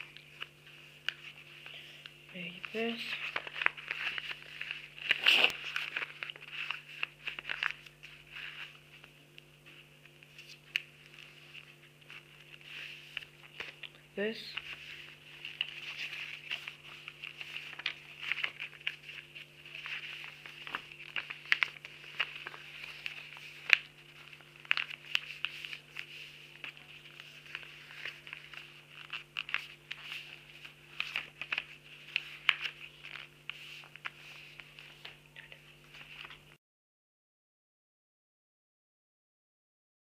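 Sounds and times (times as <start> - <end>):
faint steady hum: 0.0 - 36.6
paper rustling and crinkling: 0.0 - 36.6.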